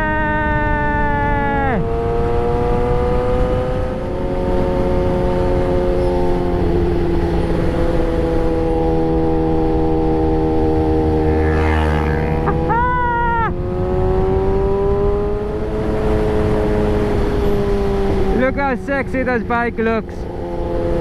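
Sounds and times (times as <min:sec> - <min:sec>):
motorcycle engine revving high: 0:00.0 - 0:21.0.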